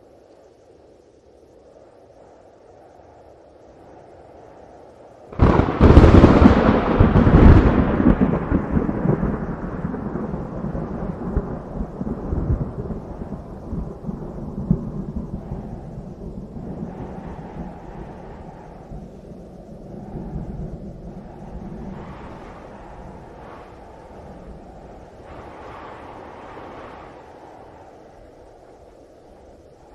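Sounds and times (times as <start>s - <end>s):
thunder crack and rumble: 5.3s - 29.9s.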